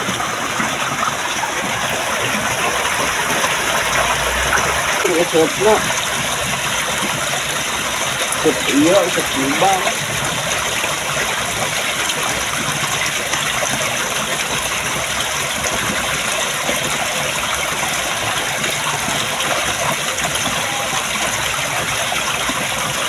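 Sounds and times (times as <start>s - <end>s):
water rushing through a ditch: 0.0s - 23.0s.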